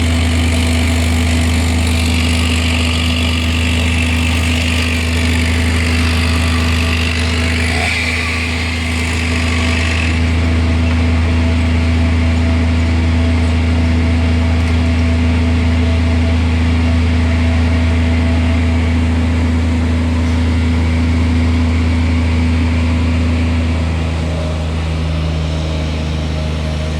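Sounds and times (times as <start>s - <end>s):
engine running steadily: 0.0s - 26.9s.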